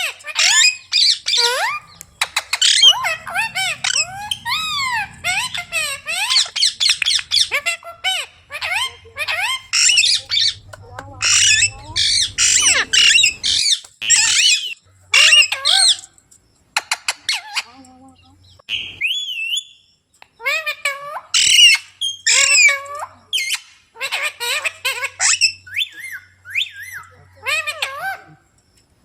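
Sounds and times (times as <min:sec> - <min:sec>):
parrots calling: 0:00.0 - 0:16.2, 0:20.4 - 0:28.3.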